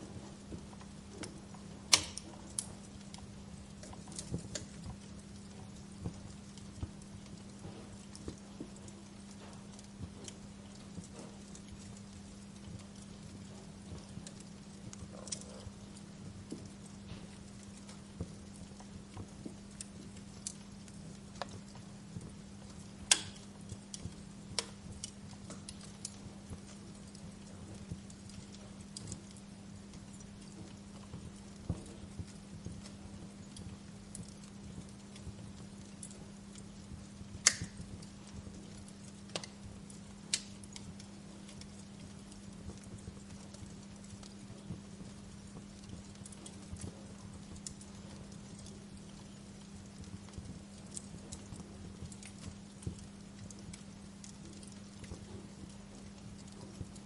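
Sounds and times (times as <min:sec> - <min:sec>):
steady low hum: 0:00.0 - 0:57.0
wood fire crackling and popping: 0:00.0 - 0:57.0.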